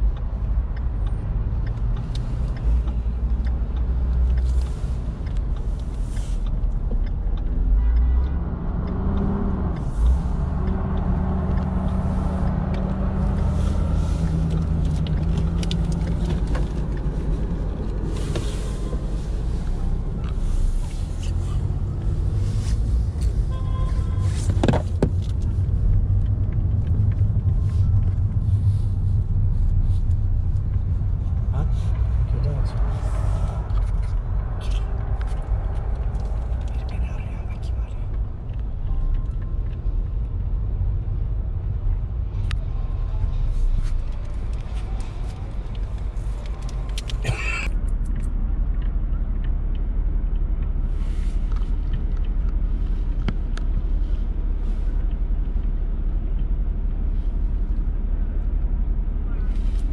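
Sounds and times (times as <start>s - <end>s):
car driving rumble: 0.0s - 59.9s
vehicles passing: 0.0s - 59.9s.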